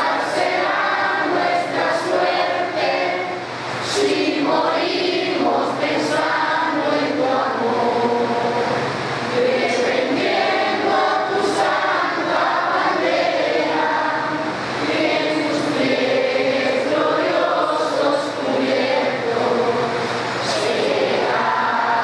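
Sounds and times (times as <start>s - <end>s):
children and adults singing anthem: 0.0s - 22.0s.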